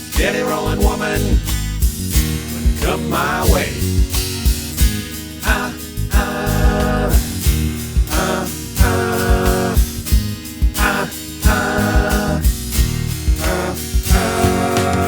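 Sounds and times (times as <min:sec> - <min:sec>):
acoustic guitar playing: 0:00.0 - 0:15.0
low rhythmic thumps: 0:00.0 - 0:15.0.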